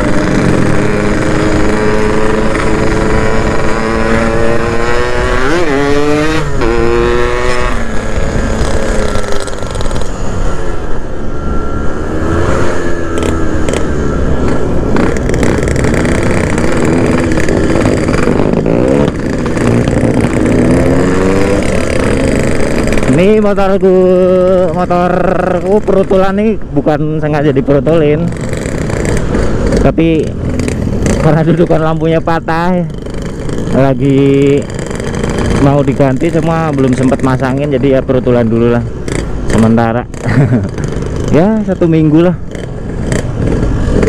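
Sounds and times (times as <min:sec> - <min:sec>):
two-stroke motorcycle engine revving: 0:00.0 - 0:44.0.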